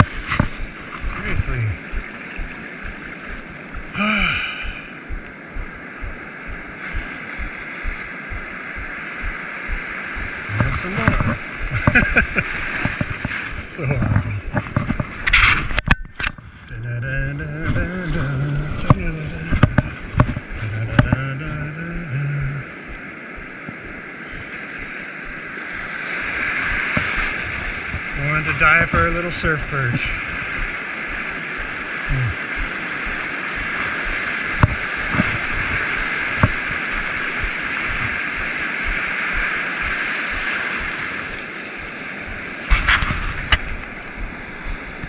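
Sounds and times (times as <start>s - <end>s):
low hum: 0.0s - 12.5s, 13.6s - 45.0s
surf washing over shallows: 0.0s - 45.0s
wind buffeting microphone: 0.0s - 45.0s.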